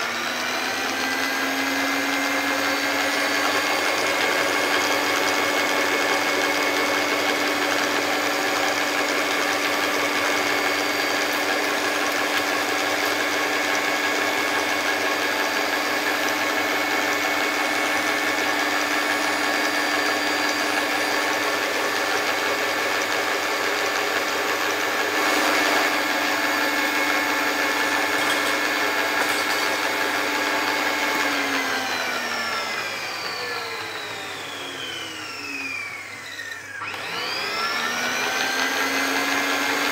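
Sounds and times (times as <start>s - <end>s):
food mixer motor whining: 0.0s - 39.9s.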